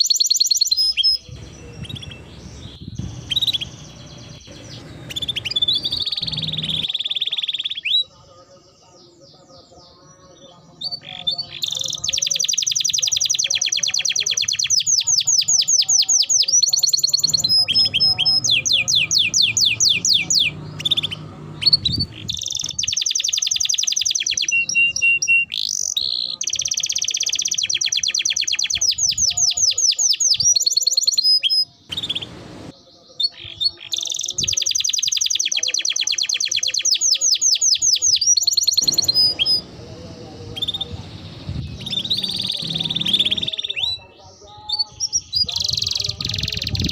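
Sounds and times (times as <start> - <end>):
canary singing fast trills: 0.0 - 46.9.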